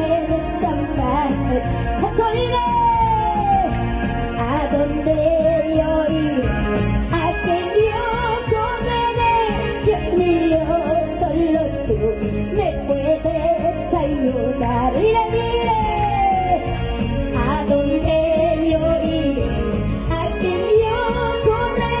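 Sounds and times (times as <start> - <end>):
amplified live band music: 0.0 - 22.0.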